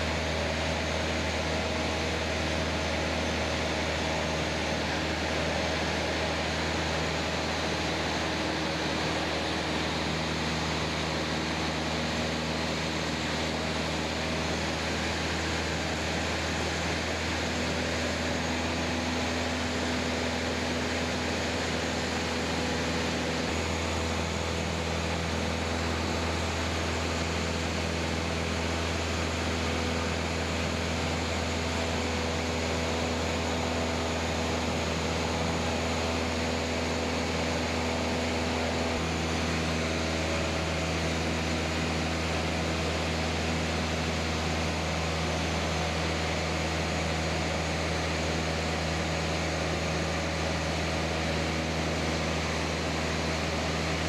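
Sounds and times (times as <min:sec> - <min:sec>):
aircraft engine drone in cabin: 0:00.0 - 0:54.0.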